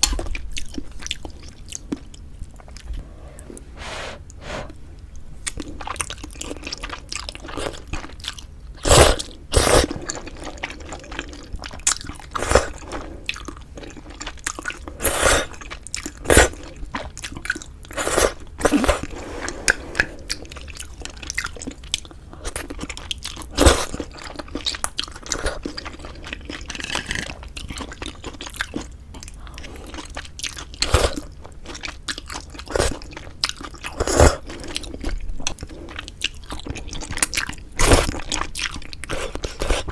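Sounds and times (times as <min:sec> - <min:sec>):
wet chewing: 0:05.4 - 0:39.9.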